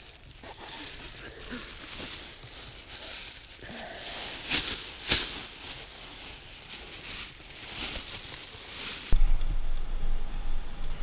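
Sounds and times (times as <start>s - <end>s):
plastic bag rustling and crinkling: 0.0s - 9.2s.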